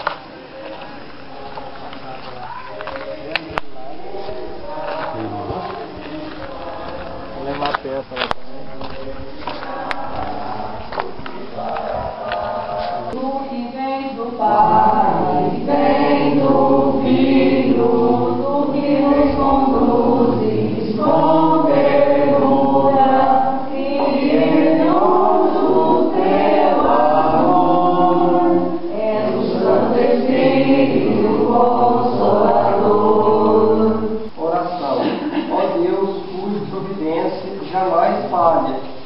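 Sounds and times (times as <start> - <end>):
congregation singing a hymn: 0.0 - 39.0.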